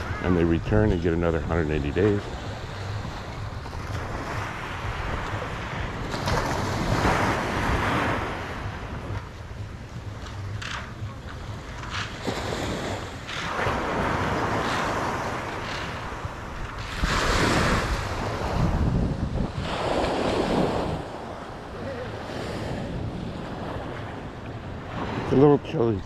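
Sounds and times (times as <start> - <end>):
sea waves breaking: 0.0 - 26.0
wind rumbling on microphone: 0.0 - 26.0.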